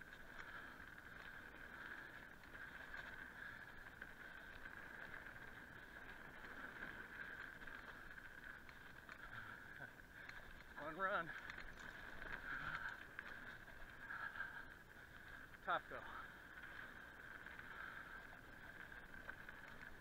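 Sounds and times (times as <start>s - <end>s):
bike rattles and clicks: 0.0s - 20.0s
faint bike whir: 0.0s - 20.0s.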